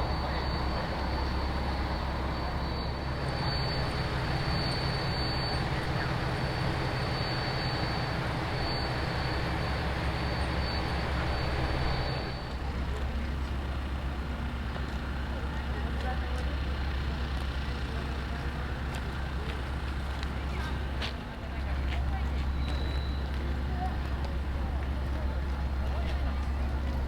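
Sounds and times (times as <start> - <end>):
vehicle running hum: 0.0 - 27.0.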